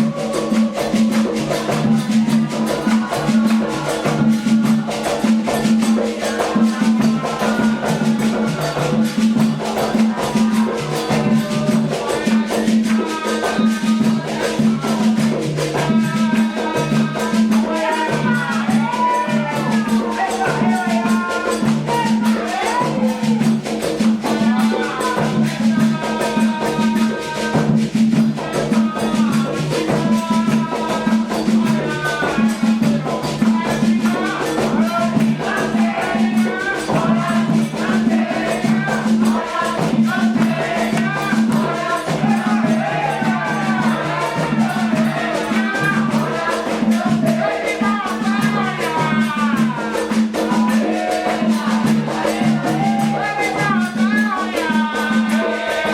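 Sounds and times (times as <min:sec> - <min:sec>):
voices singing a chant: 0:00.0 - 0:55.9.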